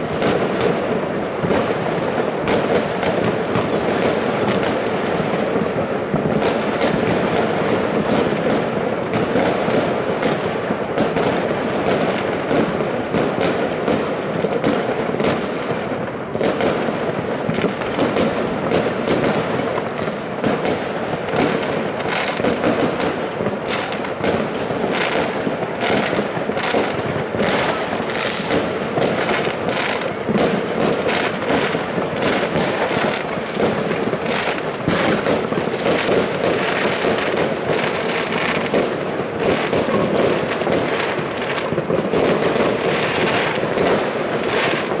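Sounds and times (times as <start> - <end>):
distant fireworks bangs: 0.0 - 45.0
firework cracks and pops: 0.0 - 45.0.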